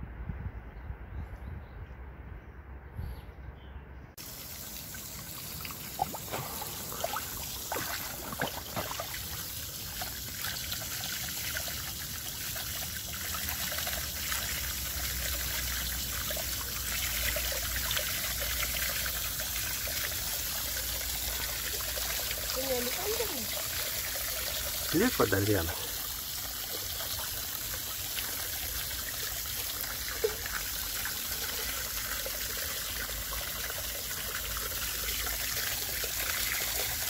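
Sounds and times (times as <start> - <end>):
small water splashes: 4.2 - 37.0
water trickling into pond: 4.2 - 37.0.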